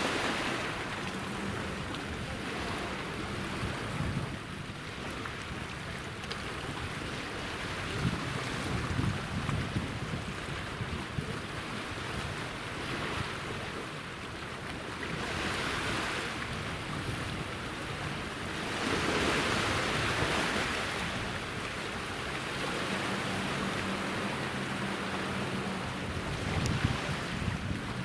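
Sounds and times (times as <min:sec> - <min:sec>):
small waves washing on shore: 0:00.0 - 0:28.0.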